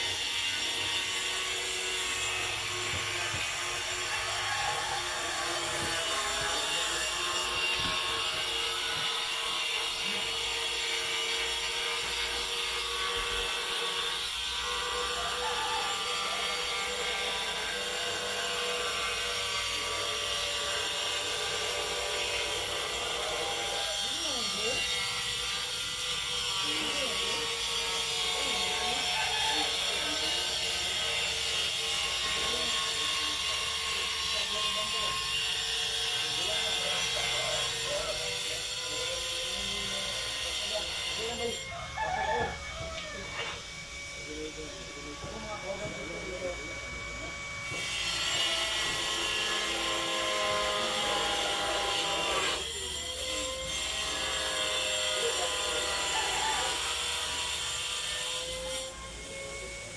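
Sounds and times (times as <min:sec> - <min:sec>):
steady mechanical drone: 0:00.0 - 0:59.9.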